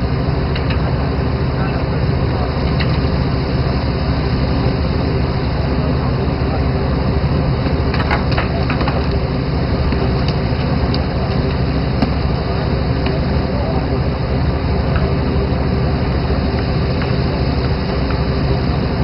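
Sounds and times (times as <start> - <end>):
boat engine rumble: 0.0 - 19.0
water rushing along hull: 0.0 - 19.0.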